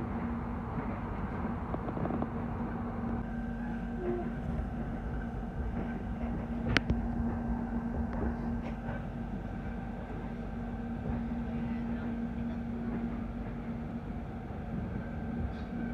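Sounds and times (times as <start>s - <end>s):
train rumbling ride noise: 0.0s - 15.9s.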